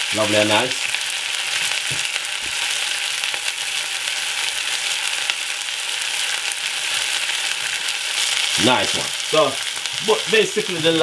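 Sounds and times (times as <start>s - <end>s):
meat sizzling in frying pan: 0.0s - 11.0s.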